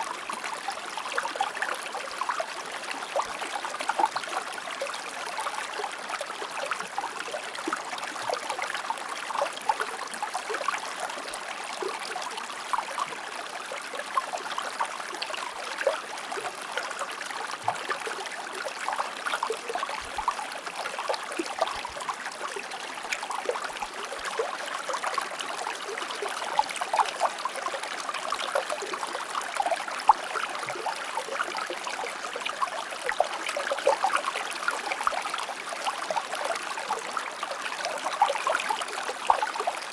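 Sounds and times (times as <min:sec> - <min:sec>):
stream flowing and gurgling: 0:00.0 - 0:39.9.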